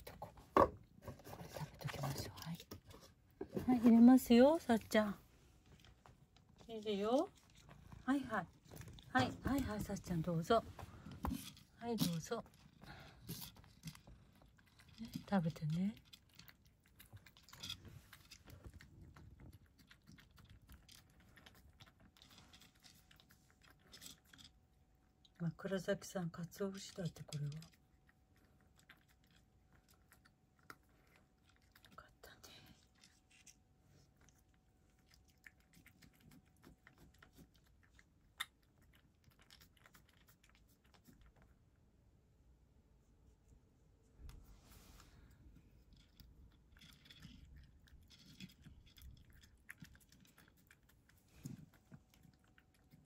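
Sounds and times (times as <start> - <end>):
cat chewing and licking: 0.0 - 53.0.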